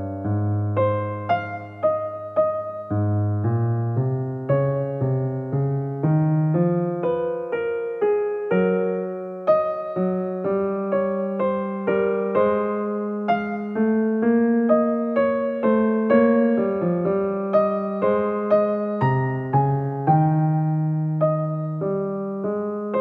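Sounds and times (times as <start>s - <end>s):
slow keyboard melody: 0.0s - 23.0s.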